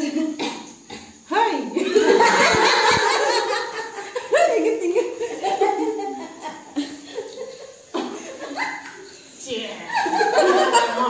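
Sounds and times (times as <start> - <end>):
women laughing: 1.8 - 11.0.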